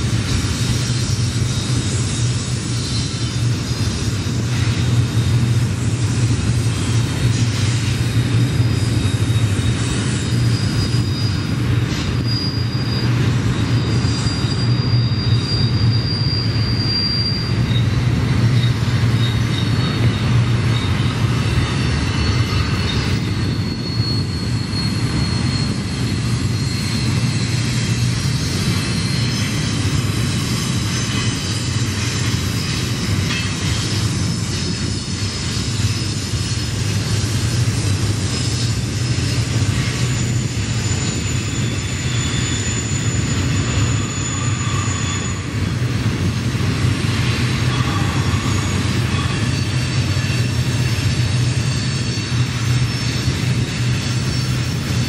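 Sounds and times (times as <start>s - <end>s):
high wheel squeal: 0.0s - 55.0s
train wheels rumbling on rail: 0.0s - 55.0s.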